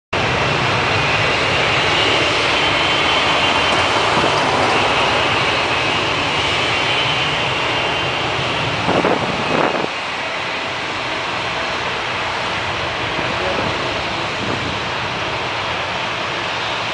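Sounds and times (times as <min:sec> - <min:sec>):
jet engines running with whine: 0:00.2 - 0:16.9.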